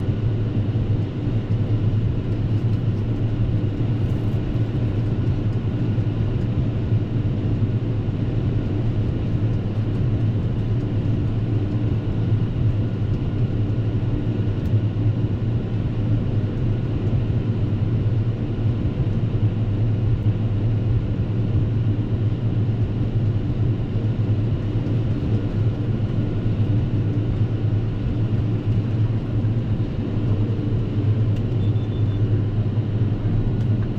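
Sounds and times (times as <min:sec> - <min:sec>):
tractor engine hum: 0:00.0 - 0:33.9.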